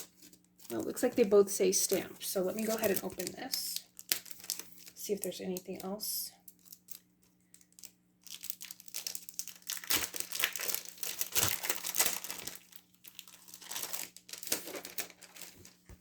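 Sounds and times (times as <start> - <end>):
packaging crinkling by hand: 0.0 - 16.0.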